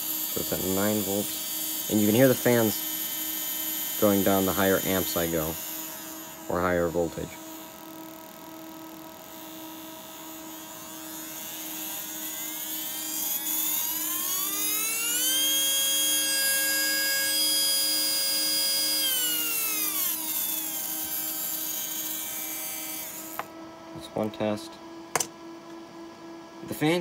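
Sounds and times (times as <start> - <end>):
cooling fans humming: 0.0 - 27.0
small electric motor whine: 0.0 - 27.0.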